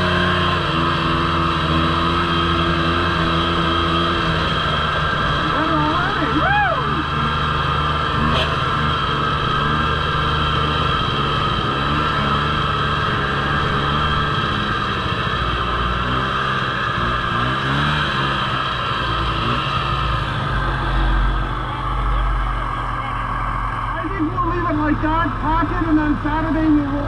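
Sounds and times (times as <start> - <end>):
snowmobile engine running: 0.0 - 27.0.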